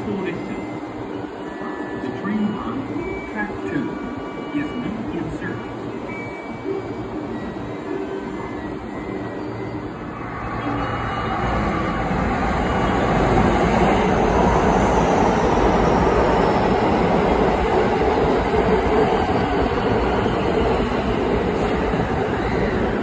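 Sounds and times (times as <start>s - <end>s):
electric train running: 0.0s - 23.0s.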